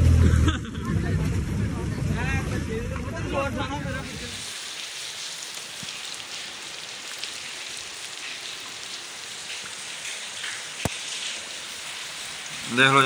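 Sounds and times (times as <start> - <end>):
heavy rain on concrete roof: 0.1 - 13.0.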